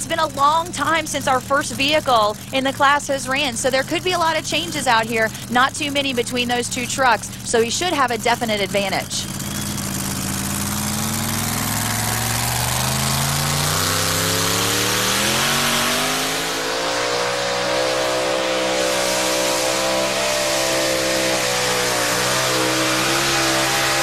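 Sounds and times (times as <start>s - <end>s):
pulling truck engine at full throttle: 0.0s - 24.0s.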